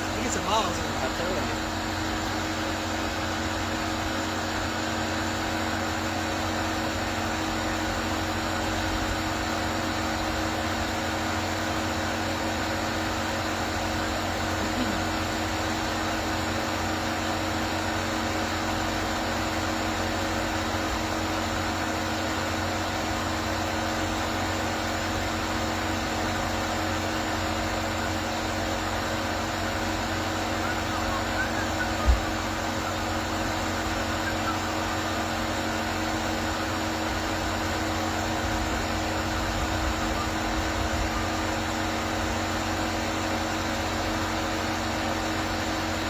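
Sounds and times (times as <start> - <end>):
steady mechanical hum: 0.0 - 46.0.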